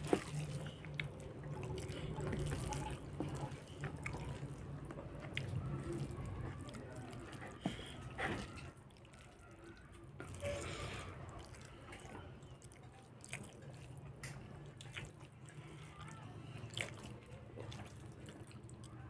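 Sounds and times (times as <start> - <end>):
wet chewing and lip-smacking: 0.0 - 19.0.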